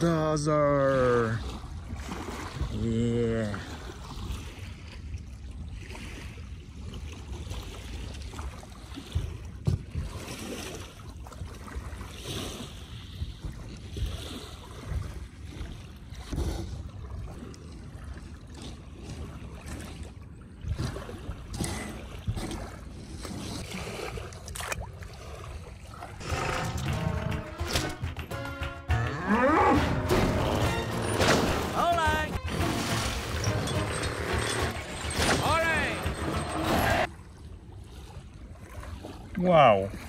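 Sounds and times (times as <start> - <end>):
water lapping at shore: 0.0 - 40.0.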